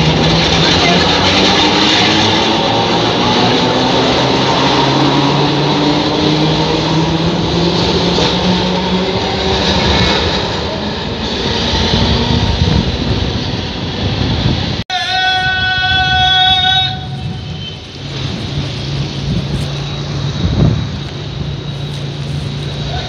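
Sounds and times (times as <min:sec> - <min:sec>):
steel wheels on rails: 0:00.0 - 0:23.0
tram motor whine: 0:00.0 - 0:23.0.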